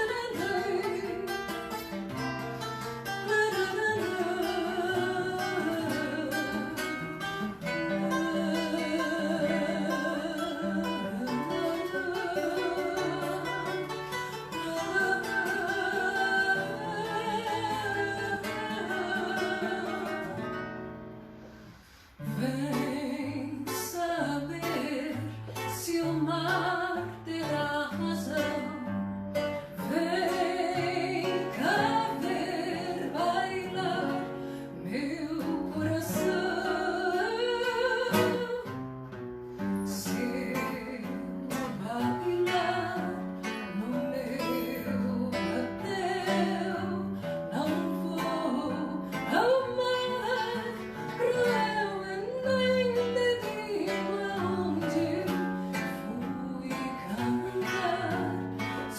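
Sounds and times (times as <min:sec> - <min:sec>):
person singing with vibrato: 0:00.0 - 0:20.9, 0:22.1 - 0:38.8, 0:39.8 - 0:58.9
acoustic guitar: 0:00.0 - 0:58.9.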